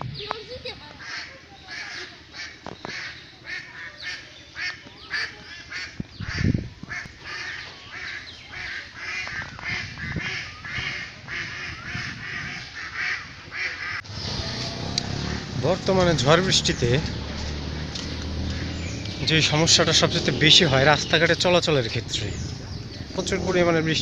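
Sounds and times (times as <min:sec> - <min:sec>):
birds giving harsh calls: 0:00.0 - 0:24.0.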